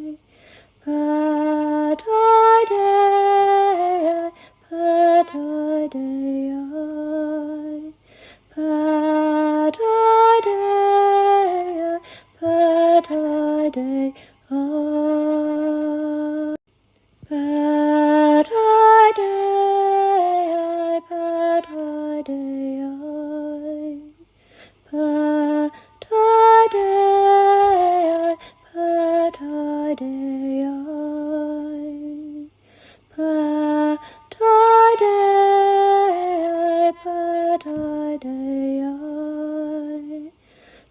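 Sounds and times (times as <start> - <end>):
woman singing unaccompanied: 0.0 - 16.6, 17.2 - 40.4.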